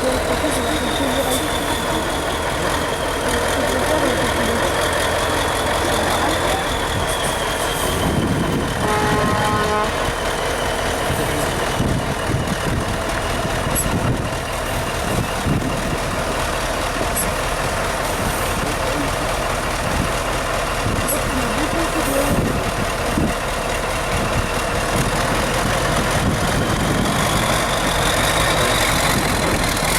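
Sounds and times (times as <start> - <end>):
diesel truck engine running: 0.0 - 29.9.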